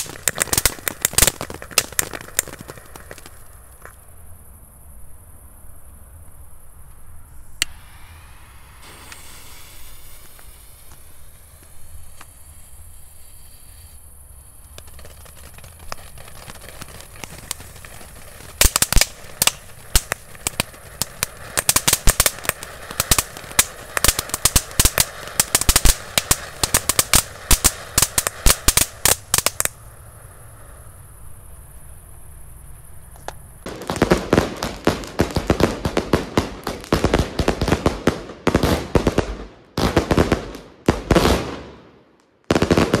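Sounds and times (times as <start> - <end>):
fireworks popping and crackling: 0.0 - 4.1, 6.9 - 31.0, 33.1 - 43.0.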